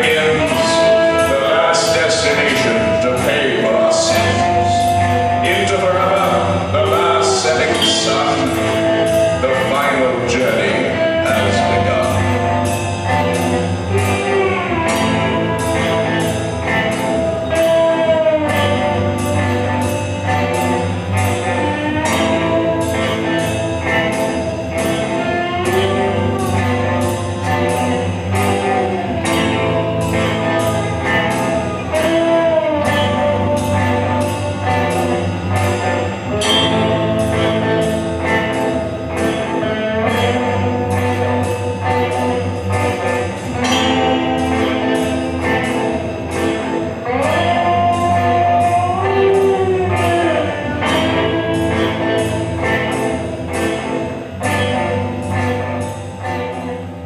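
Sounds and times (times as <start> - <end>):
bass guitar: 0.0 - 57.0
bending melody line: 0.0 - 57.0
electric guitar: 0.0 - 57.0.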